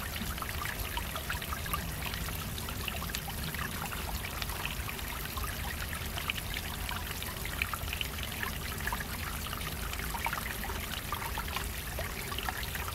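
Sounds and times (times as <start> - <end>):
water trickling over stones: 0.0 - 12.9.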